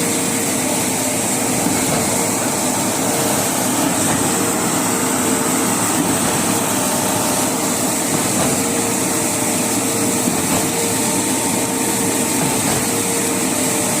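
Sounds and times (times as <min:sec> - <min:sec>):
machine droning: 0:00.0 - 0:14.0.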